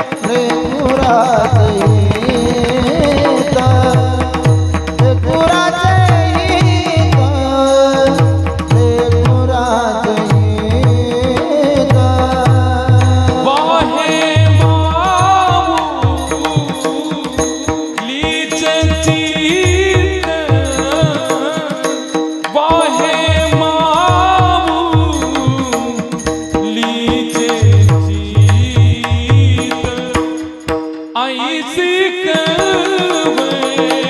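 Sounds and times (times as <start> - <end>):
person singing devotional song: 0.0 - 34.0.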